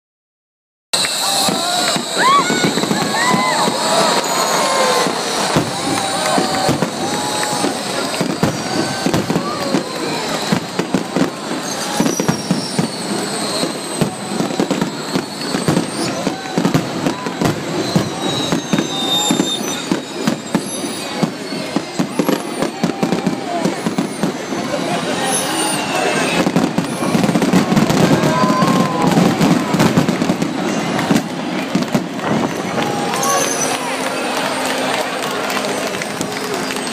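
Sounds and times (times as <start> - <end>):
fireworks whistling: 0.9 - 36.9
fireworks bangs and crackles: 1.0 - 36.9.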